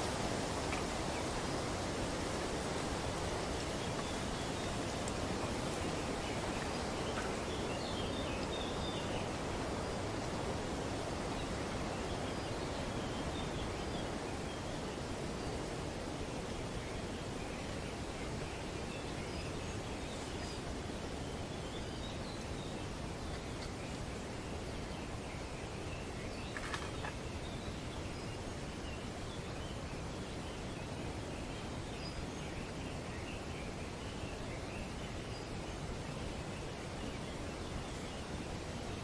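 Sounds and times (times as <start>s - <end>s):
wind through tree foliage: 0.0s - 39.0s.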